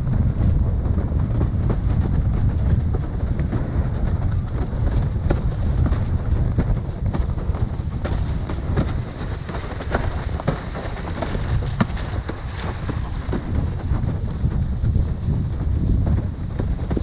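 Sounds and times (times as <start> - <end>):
wind buffeting microphone: 0.0 - 17.0
windsurf board slapping over chop: 0.0 - 17.0.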